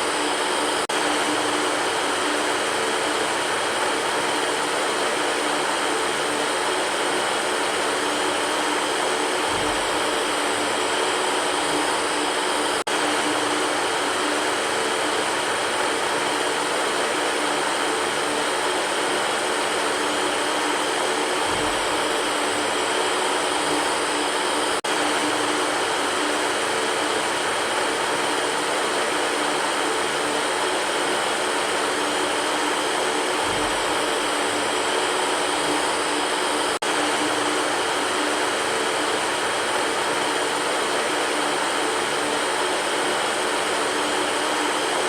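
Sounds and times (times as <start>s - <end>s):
electric fan running: 0.0s - 45.0s.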